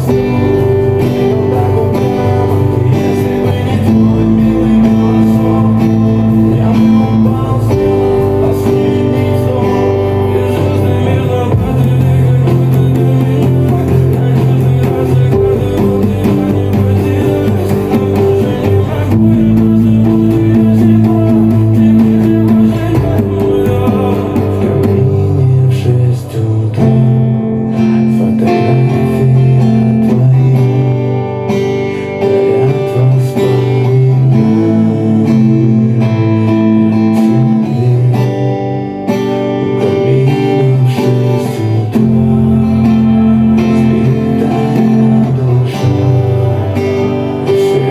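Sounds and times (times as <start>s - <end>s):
guitar playing chords: 0.0s - 47.9s.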